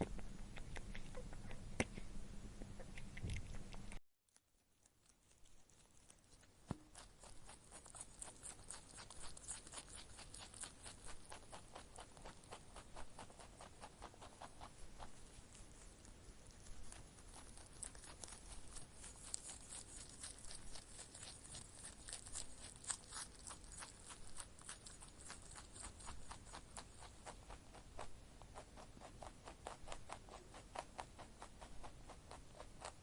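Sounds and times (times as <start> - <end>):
rabbit crunching clicks: 4.8 - 33.0.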